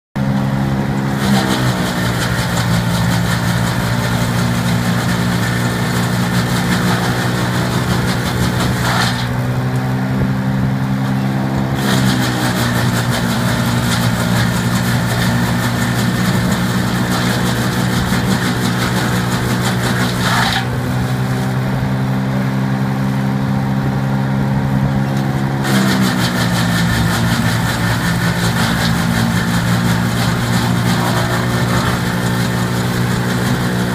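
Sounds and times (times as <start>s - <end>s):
wood chipper and tractor running: 0.2s - 33.9s.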